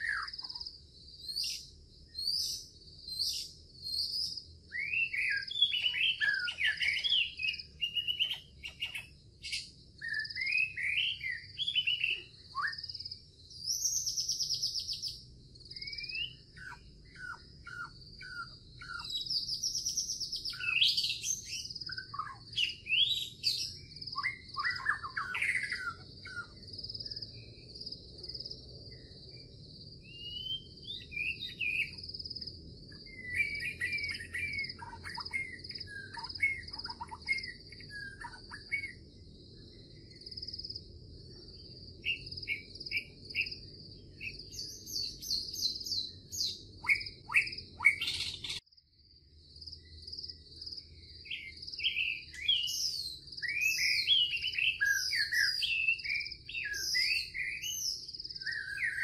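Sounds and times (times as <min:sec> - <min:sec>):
birds chirping and whistling: 0:00.0 - 0:27.8, 0:28.9 - 0:48.6, 0:49.9 - 0:59.0
high insect trill: 0:00.0 - 0:59.0.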